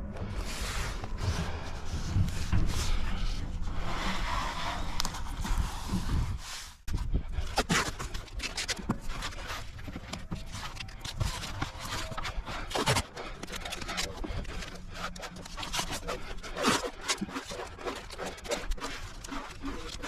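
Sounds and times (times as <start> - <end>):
scraping and rubbing: 0.0 - 20.0.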